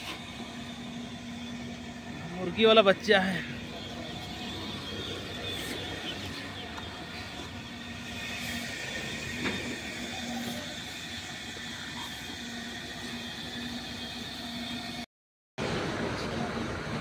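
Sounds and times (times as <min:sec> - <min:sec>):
low engine hum: 0:00.0 - 0:15.0, 0:15.6 - 0:17.0
steady traffic noise: 0:00.0 - 0:17.0.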